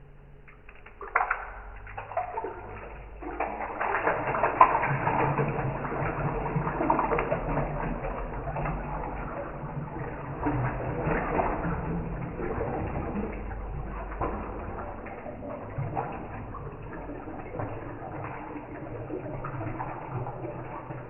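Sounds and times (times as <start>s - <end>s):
slowed low-pitched water pouring: 0.0s - 21.0s.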